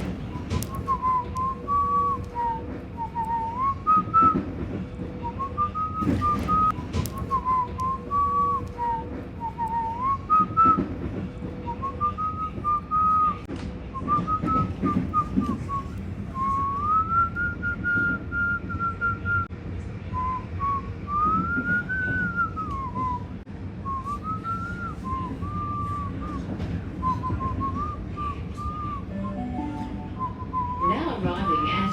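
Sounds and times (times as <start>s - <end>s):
person whistling a tune: 0.7s - 4.4s, 5.2s - 10.8s, 14.0s - 19.5s, 20.2s - 31.9s.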